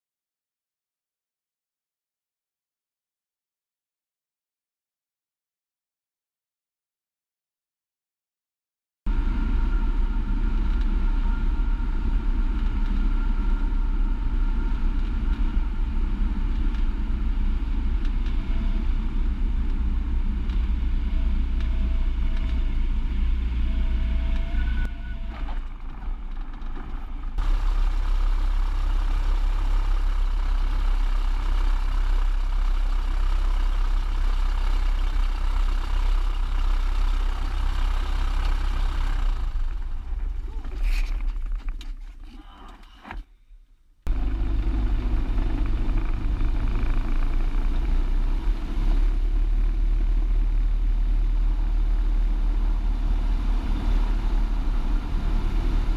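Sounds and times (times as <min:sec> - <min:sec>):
propeller plane engine drone: 0:09.1 - 0:43.2, 0:44.1 - 0:55.9.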